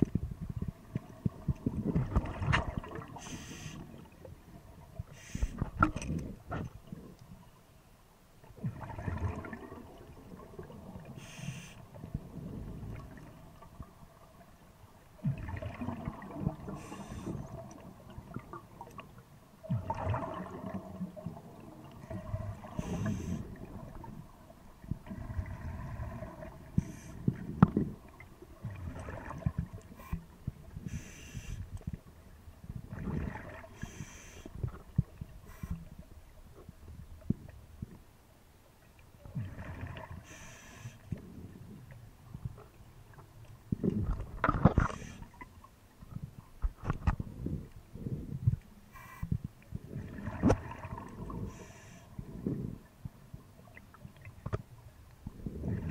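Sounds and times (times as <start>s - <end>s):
exhaled bubbles gurgling underwater: 0.0s - 7.4s, 8.5s - 38.0s, 39.2s - 55.9s.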